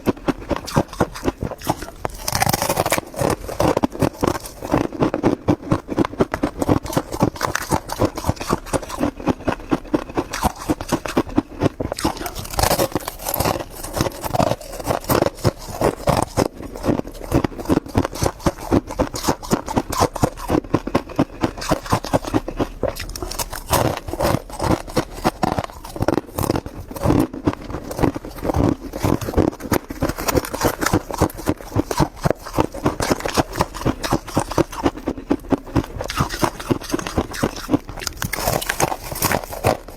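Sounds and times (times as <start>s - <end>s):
frost being chewed: 0.0s - 39.9s.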